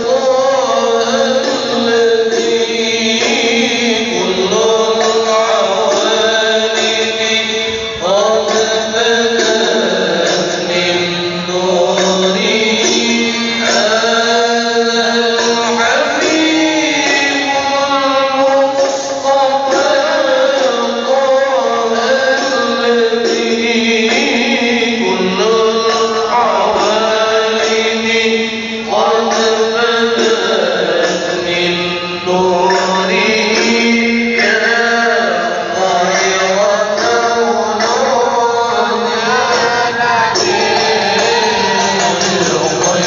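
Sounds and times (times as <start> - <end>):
men chanting devotional verses: 0.0 - 43.0.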